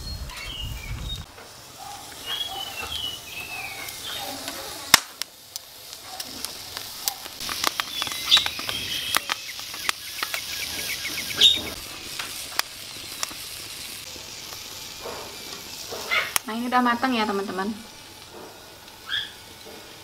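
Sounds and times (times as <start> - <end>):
food crackling on hot pan: 0.4 - 20.0.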